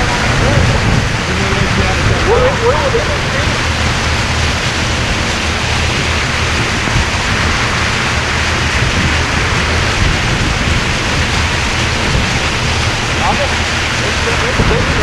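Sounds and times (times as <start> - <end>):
low rumble: 0.0 - 15.0
wind and water rushing: 0.0 - 15.0.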